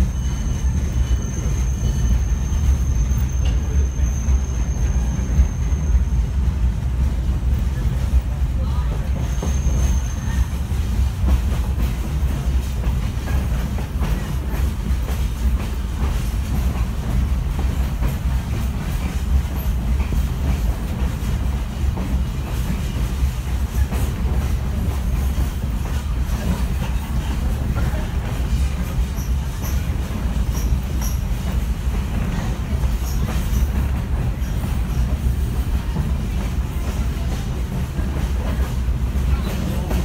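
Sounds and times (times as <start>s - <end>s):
train coach rumbling on track: 0.0s - 40.0s.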